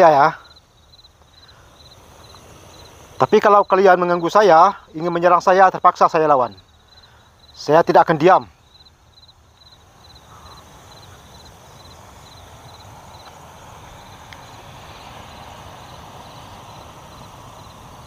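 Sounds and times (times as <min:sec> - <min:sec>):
cricket chirping: 0:00.0 - 0:18.0
steady noise: 0:00.0 - 0:18.0.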